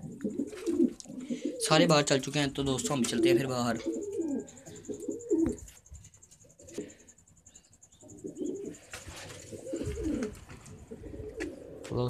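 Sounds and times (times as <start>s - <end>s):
pigeons cooing: 0.0s - 7.1s, 7.9s - 12.0s.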